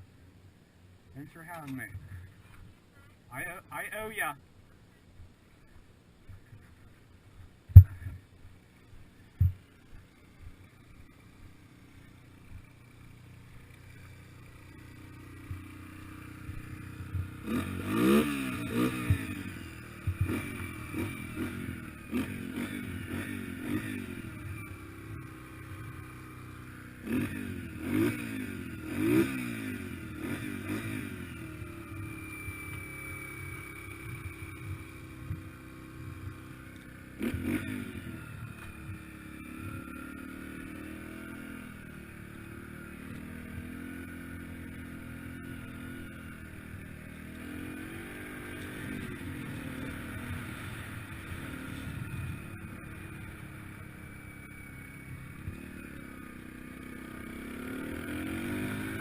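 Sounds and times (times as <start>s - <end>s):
dirt bike engine revving: 10.5s - 59.0s.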